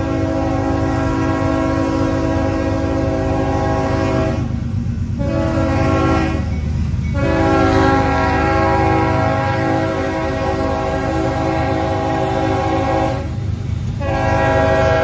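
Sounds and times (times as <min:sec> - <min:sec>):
locomotive air horn blowing: 0:00.0 - 0:04.6, 0:05.2 - 0:06.5, 0:07.1 - 0:15.0
low rumble of train: 0:00.0 - 0:15.0.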